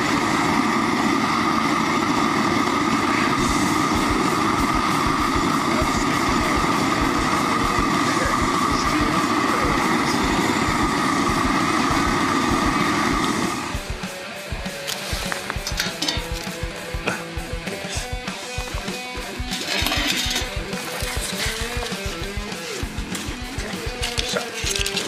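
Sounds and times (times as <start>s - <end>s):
gas burner rushing hiss: 0.0s - 25.0s.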